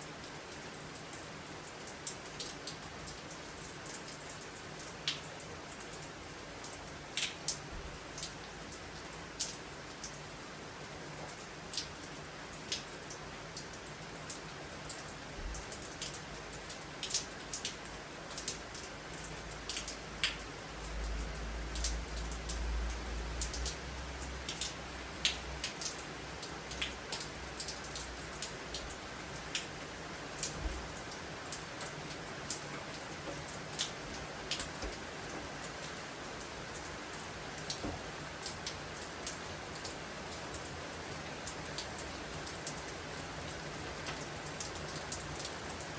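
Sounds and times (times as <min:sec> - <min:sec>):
steady rain: 0:00.0 - 0:45.9
raindrops tapping on a surface: 0:00.2 - 0:45.9.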